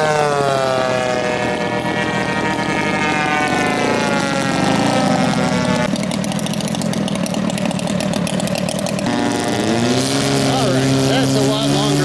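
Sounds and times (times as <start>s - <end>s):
model airplane engines droning: 0.0s - 12.0s.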